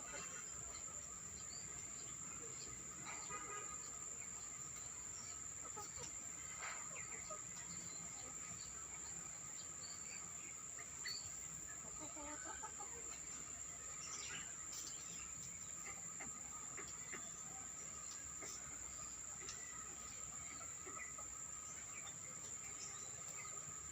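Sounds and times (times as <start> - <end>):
chickens clucking: 0.0 - 23.9
small birds chirping: 0.0 - 23.9.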